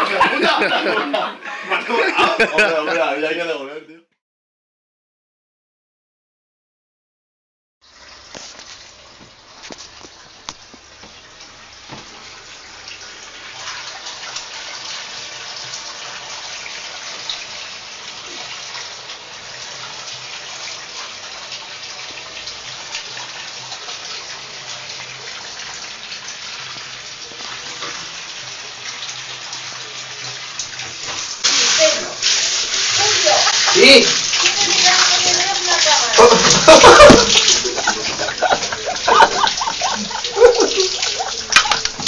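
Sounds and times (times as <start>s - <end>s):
shower water spraying: 7.9s - 42.0s.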